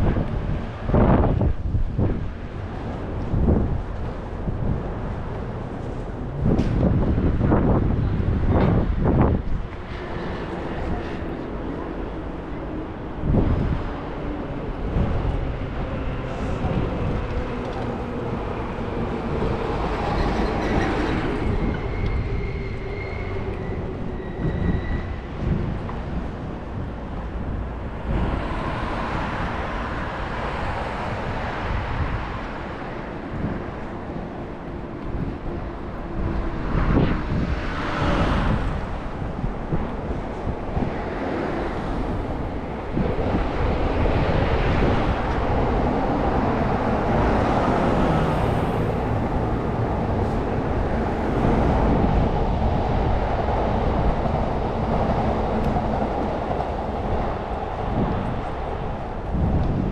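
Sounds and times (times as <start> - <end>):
low rumble of city noise: 0.0 - 59.9
wind buffeting microphone: 0.0 - 59.9.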